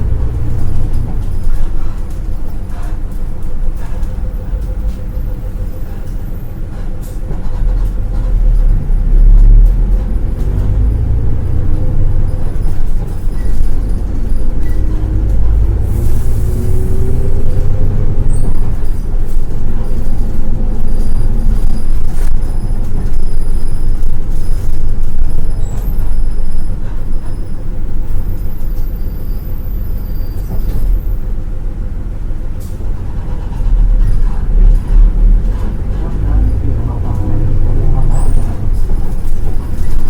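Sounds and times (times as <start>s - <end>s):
bus engine rumbling: 0.0s - 40.0s.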